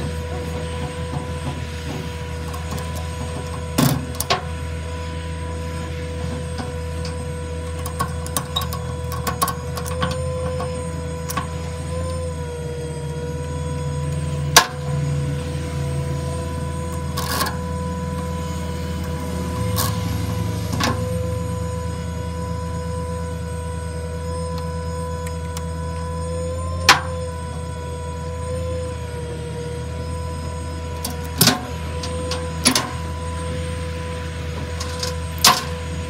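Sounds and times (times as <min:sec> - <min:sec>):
truck engine hum and whine: 0:00.0 - 0:36.0.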